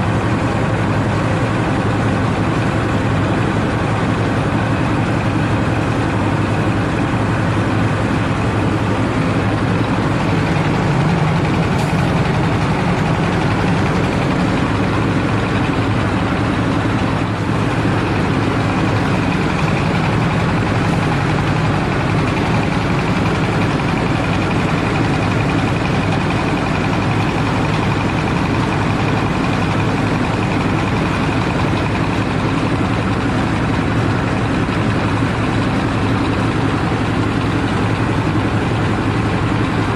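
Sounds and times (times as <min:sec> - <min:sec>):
diesel engine running: 0:00.0 - 0:39.9
rice huller machine running: 0:00.0 - 0:39.9.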